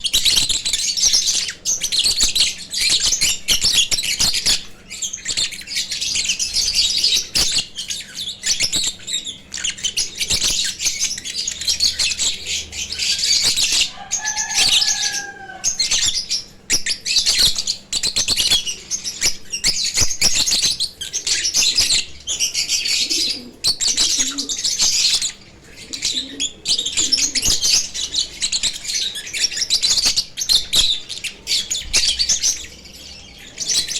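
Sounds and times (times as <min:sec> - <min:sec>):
lovebirds chattering: 0:00.0 - 0:33.9.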